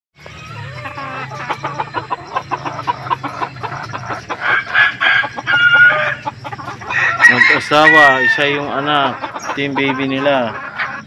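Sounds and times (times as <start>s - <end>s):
birds clucking and calling: 0.2s - 11.0s.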